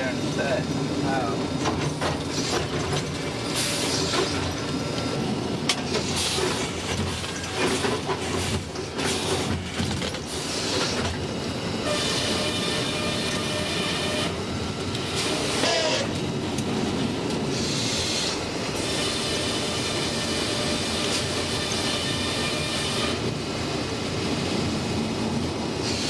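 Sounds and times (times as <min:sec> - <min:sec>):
sawmill machinery clatter: 0:00.0 - 0:25.2.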